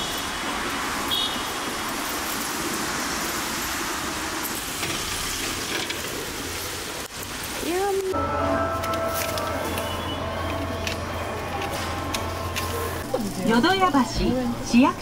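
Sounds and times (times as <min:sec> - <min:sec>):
road traffic hiss: 0:00.0 - 0:13.6.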